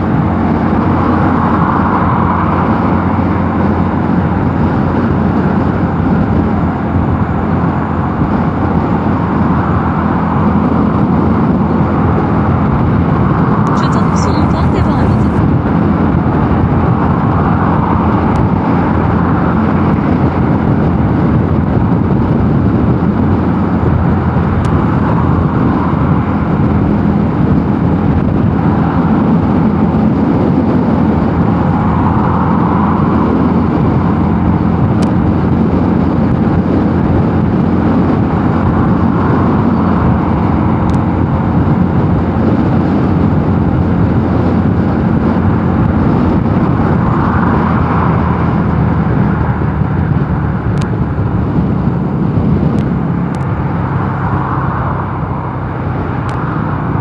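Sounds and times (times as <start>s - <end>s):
motorcycle engine drone: 0.0s - 57.0s
wind rush over microphone: 0.0s - 57.0s.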